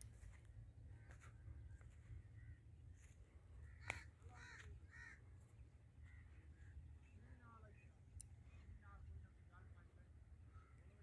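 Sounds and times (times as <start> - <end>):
low steady rumble: 0.0 - 11.0
faint bird calls: 0.8 - 9.1, 10.4 - 11.0.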